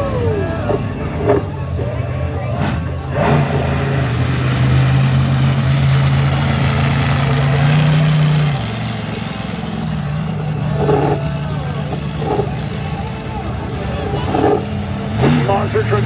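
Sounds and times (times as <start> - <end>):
monster truck engines droning: 0.0 - 16.0.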